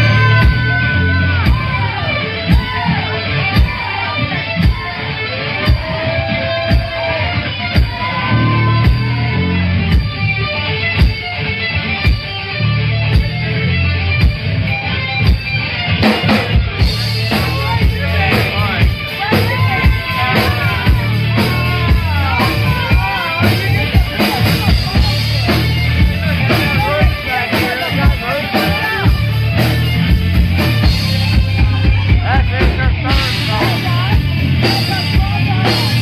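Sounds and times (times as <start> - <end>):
electric guitars: 0.0 - 36.0
pounding drum kit: 0.0 - 36.0
rock band playing: 0.0 - 36.0.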